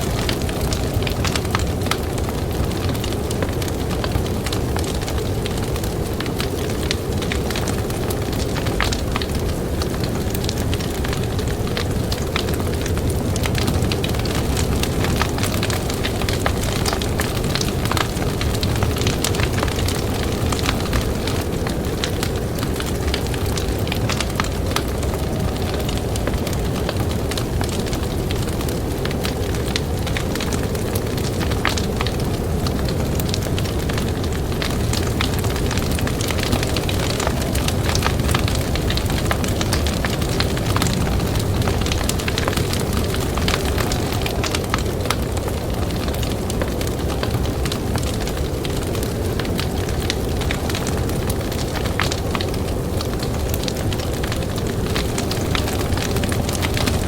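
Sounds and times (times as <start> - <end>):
campfire crackling and popping: 0.0 - 57.0
low rumble of wind: 0.0 - 57.0.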